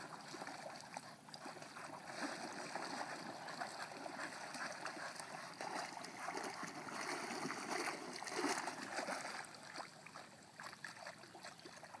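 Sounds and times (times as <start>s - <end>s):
dog splashing through water: 0.0s - 12.0s.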